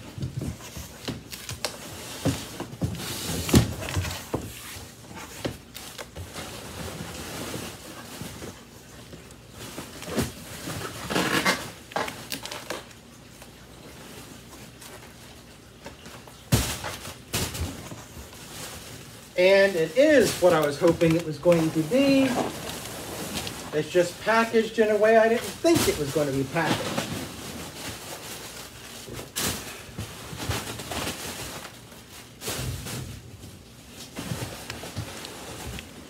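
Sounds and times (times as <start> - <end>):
cardboard rustling and scraping: 0.0 - 36.0.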